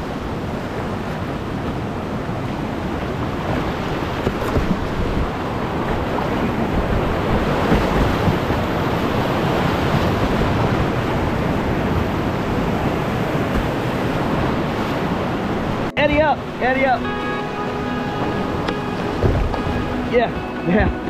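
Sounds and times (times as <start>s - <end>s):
whitewater rapids rushing: 0.0s - 21.0s.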